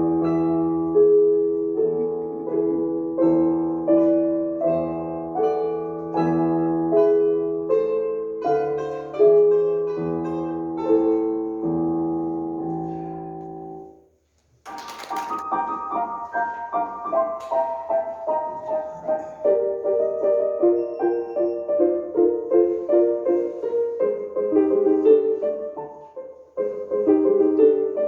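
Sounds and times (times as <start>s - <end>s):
piano melody: 0.0s - 14.0s, 14.7s - 28.0s.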